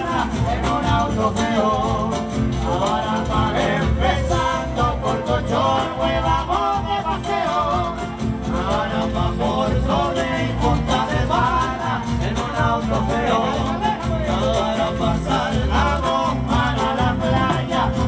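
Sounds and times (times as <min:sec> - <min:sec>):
guitar: 0:00.0 - 0:18.0
person singing: 0:00.0 - 0:18.0.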